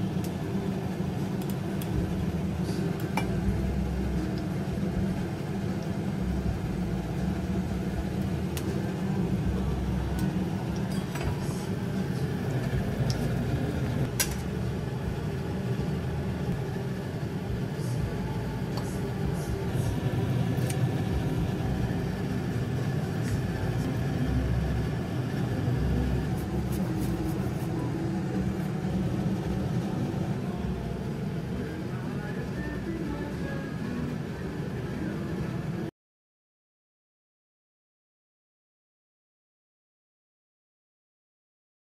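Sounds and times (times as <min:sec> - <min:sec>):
low kitchen rumble: 0:00.0 - 0:35.9.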